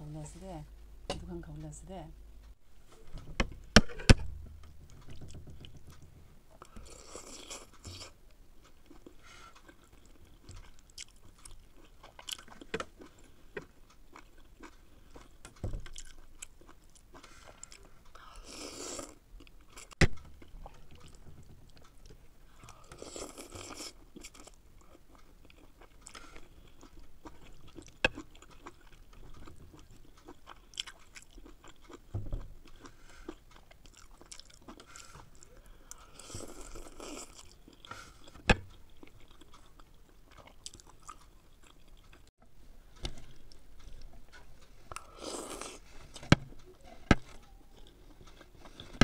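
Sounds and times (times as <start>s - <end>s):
chewing: 6.6s - 42.3s, 43.2s - 49.0s.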